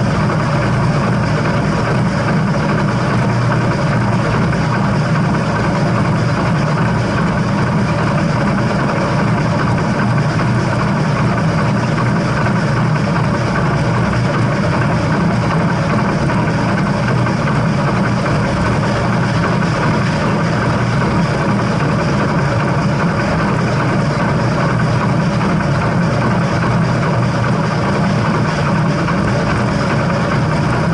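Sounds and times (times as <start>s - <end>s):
steam train running rumble: 0.0s - 30.9s.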